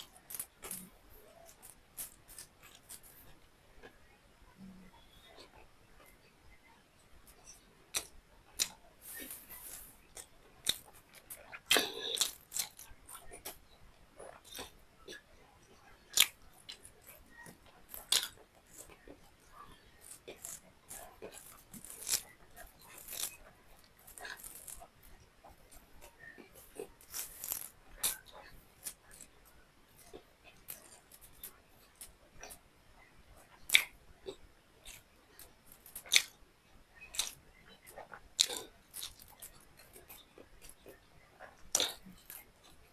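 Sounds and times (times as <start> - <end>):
person chewing with mouth smacks: 0.0 - 6.2, 7.2 - 32.7, 33.4 - 36.4, 37.0 - 42.9.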